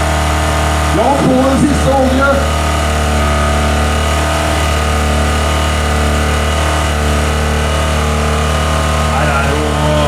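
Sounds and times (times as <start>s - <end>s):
car engine running loudly: 0.0s - 10.0s.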